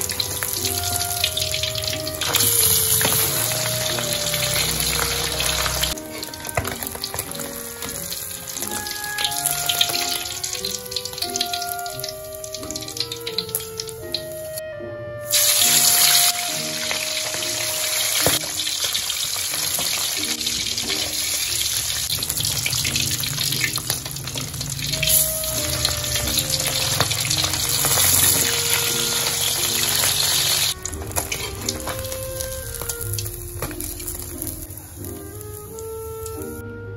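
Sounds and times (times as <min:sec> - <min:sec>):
fish sizzling in hot oil: 0:00.0 - 0:14.6, 0:15.3 - 0:36.6.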